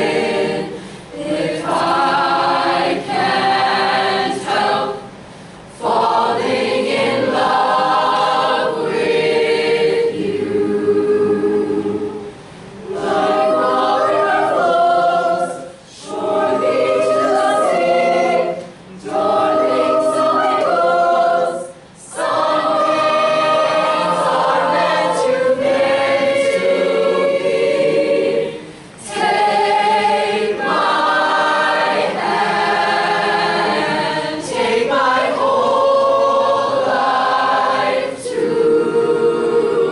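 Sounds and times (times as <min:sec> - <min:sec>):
choir singing unaccompanied: 0:00.0 - 0:39.9.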